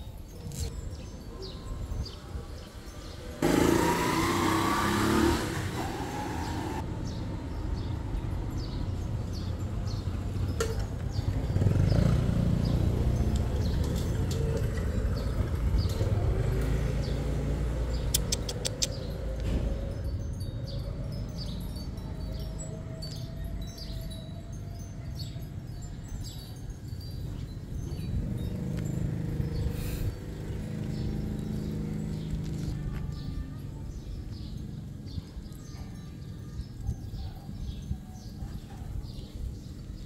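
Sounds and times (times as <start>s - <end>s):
small birds chirping: 0.0s - 3.7s, 4.7s - 40.0s
passing traffic rumble: 0.0s - 40.0s.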